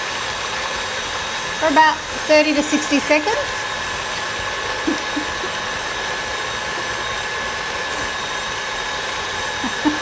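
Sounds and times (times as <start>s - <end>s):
stand mixer motor whine: 0.0s - 10.0s.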